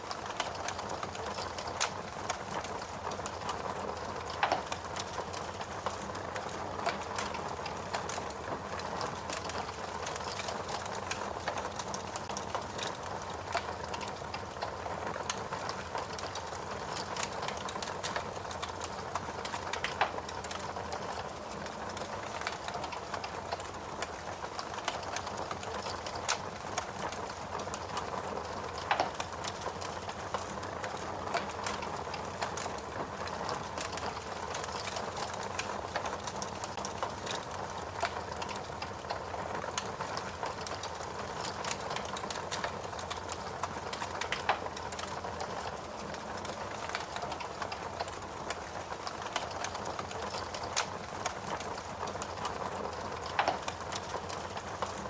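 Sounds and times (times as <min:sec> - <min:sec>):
fire crackling and popping: 0:00.0 - 0:55.0
fire snapping loudly: 0:00.2 - 0:55.0.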